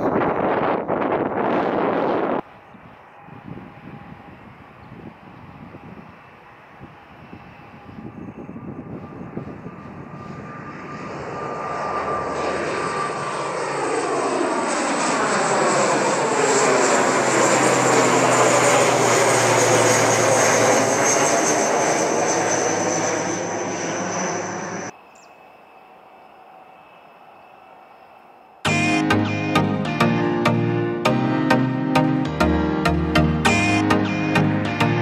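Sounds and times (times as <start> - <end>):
propeller drone: 0.0 - 35.0
turbine whine: 0.0 - 35.0.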